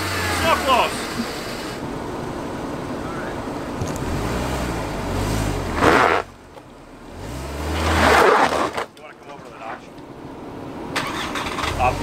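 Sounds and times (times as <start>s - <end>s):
car engine revving under load: 0.0s - 9.0s, 9.7s - 12.0s.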